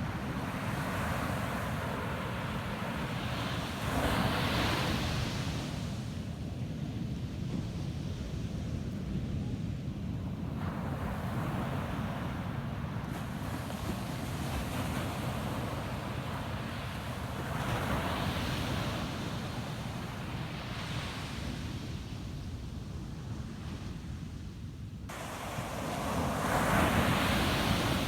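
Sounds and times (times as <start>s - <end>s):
surf rumble: 0.0s - 28.0s.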